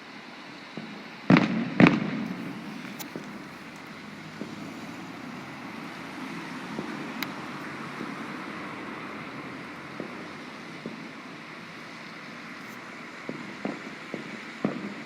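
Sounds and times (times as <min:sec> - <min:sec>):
steady outdoor hiss: 0:00.0 - 0:15.0
distant fireworks popping: 0:00.7 - 0:15.0.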